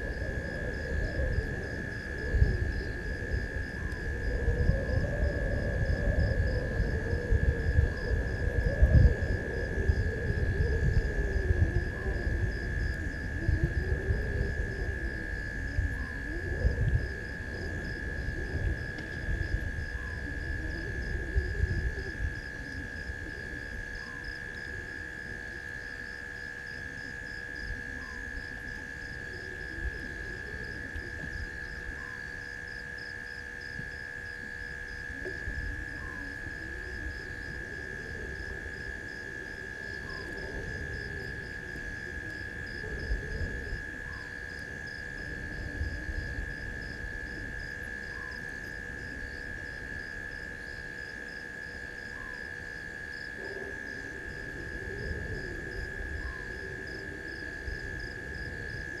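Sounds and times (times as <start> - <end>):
cricket trill: 0.0 - 59.0
high insect drone: 0.0 - 59.0.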